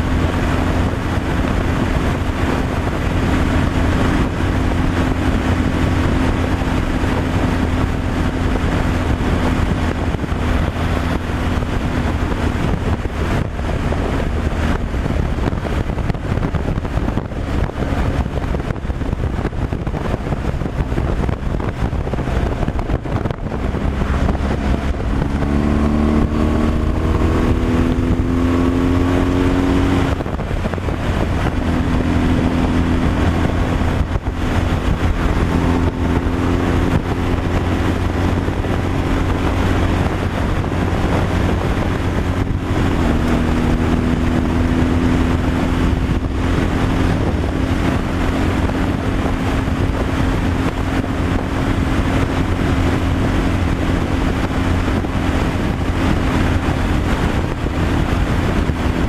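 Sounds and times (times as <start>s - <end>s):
road and wind noise: 0.0s - 59.0s
truck engine pulling: 0.0s - 59.0s.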